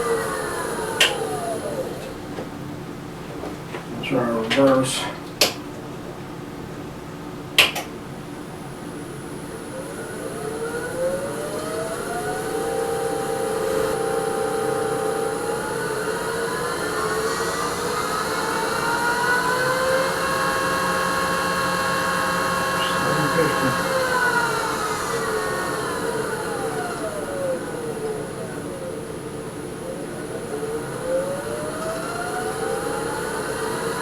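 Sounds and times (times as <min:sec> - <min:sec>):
lathe motor whine: 0:00.0 - 0:04.5, 0:08.6 - 0:34.0.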